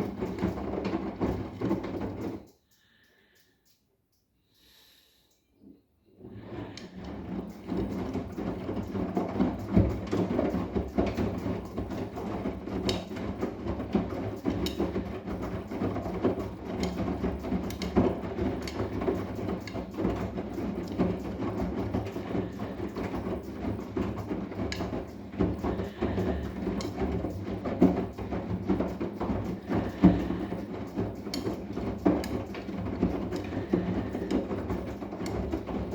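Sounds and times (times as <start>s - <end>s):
clicks and knocks in drum: 0.0s - 2.5s, 6.3s - 35.9s
washing machine rumbling: 0.0s - 2.5s, 6.3s - 35.9s.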